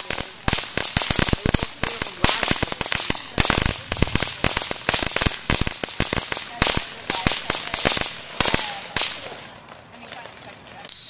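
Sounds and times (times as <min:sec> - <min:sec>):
fireworks cracking and popping: 0:00.0 - 0:11.0.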